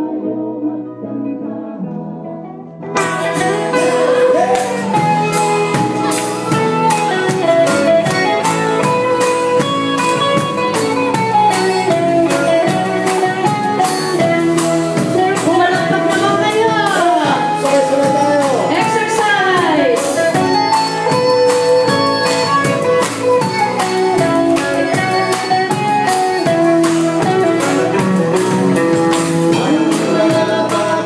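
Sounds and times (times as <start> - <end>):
folk-rock band playing: 0.0 - 31.0
person singing: 0.0 - 31.0.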